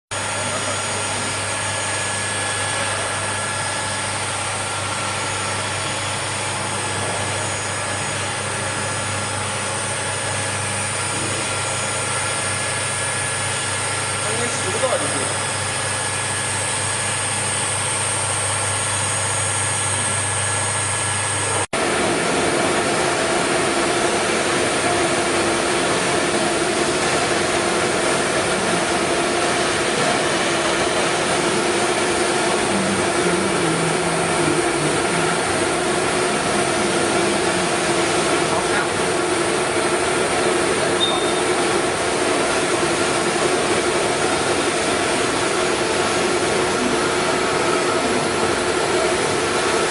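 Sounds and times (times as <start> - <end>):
cnc router spindle whine: 0.1 - 49.9.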